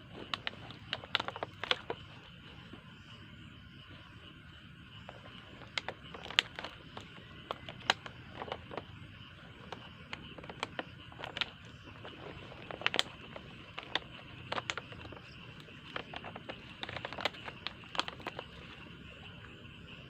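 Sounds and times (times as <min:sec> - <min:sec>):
sharp clicks and crackles: 0:00.0 - 0:02.4, 0:05.0 - 0:19.0
insects chirping at night: 0:00.0 - 0:20.0.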